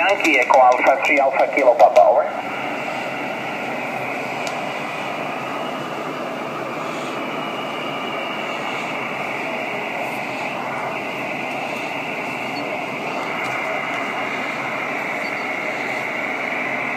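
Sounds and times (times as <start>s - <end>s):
radio static hiss: 0.0s - 16.9s.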